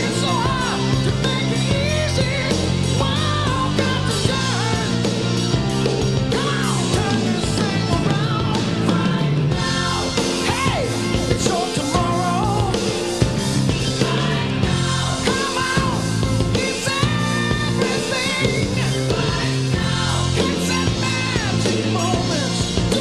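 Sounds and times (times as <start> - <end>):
rock song with vocals: 0.0 - 23.0.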